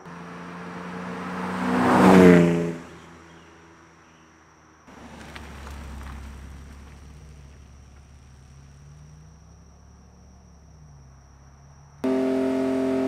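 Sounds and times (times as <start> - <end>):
car passing at speed: 0.0 - 4.2, 4.9 - 13.0
low rumble of car rolling past: 0.0 - 13.0.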